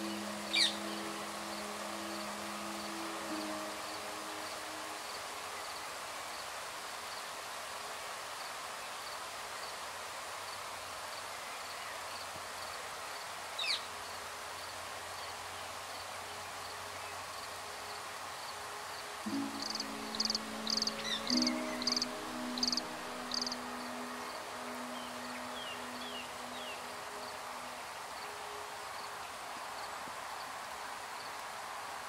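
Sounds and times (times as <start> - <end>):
insects chirping: 0.0 - 7.4, 8.4 - 32.0.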